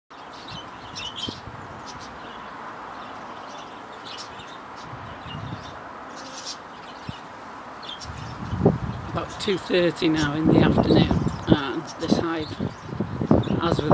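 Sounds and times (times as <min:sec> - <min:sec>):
small birds chirping: 0:00.1 - 0:13.9
honeybees humming: 0:00.2 - 0:13.9.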